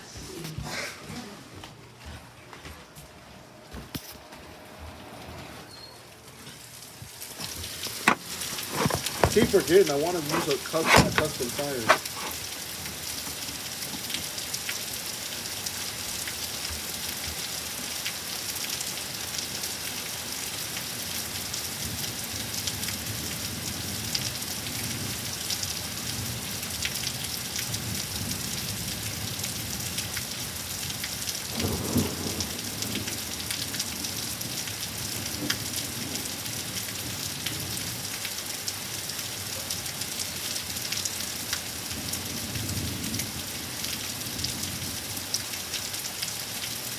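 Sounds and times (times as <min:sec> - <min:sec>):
steady rain falling: 0:04.9 - 0:46.9.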